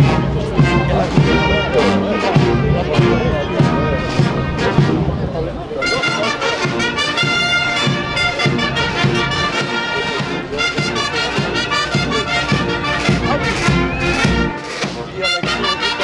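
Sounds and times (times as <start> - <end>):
brass melody: 0.0 - 16.0
side drums beating: 0.0 - 16.0.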